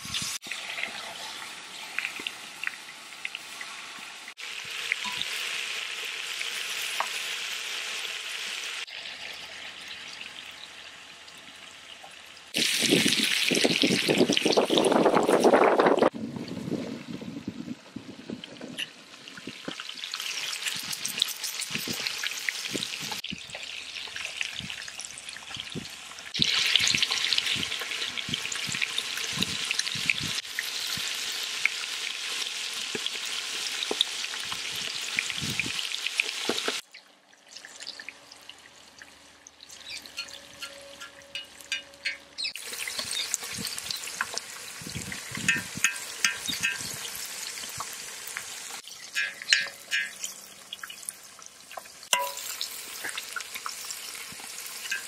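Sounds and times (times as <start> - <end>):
chicken sizzling in hot oil: 0.0 - 16.2, 18.8 - 55.0.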